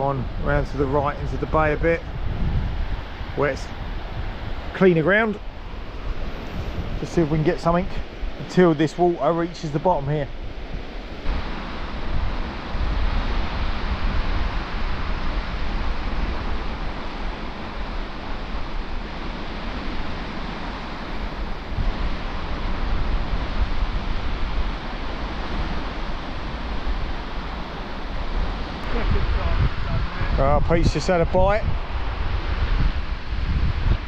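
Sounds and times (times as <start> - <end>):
surf breaking on shore: 0.0 - 34.0
wind buffeting microphone: 0.0 - 34.0.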